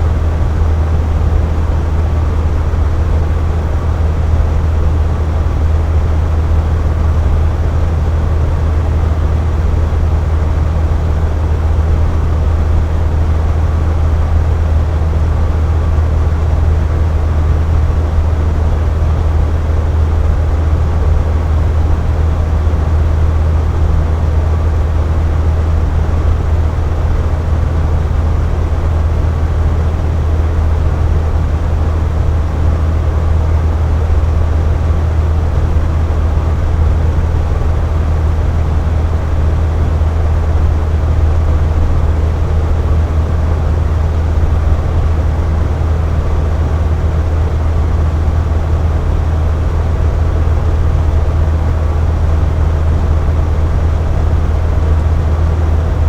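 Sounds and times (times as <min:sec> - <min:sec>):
box fan running: 0:00.0 - 0:56.0.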